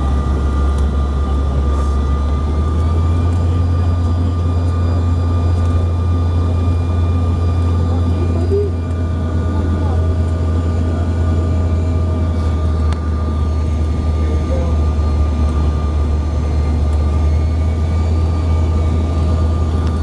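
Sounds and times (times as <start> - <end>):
aircraft cabin engine hum: 0.0 - 20.0.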